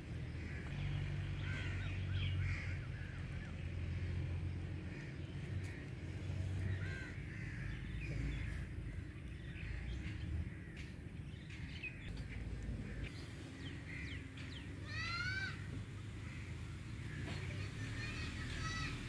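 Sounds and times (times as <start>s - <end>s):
low steady rumble: 0.0s - 17.2s
birds calling: 0.0s - 19.0s.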